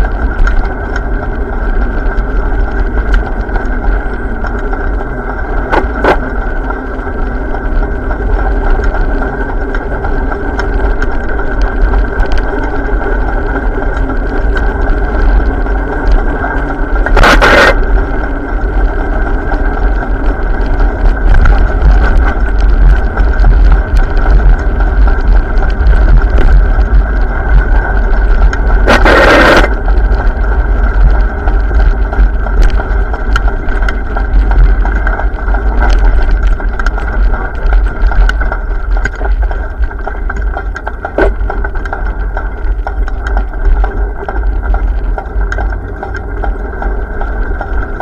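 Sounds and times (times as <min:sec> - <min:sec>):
road and traffic noise: 0:00.0 - 0:48.0
wind buffeting microphone: 0:00.0 - 0:48.0.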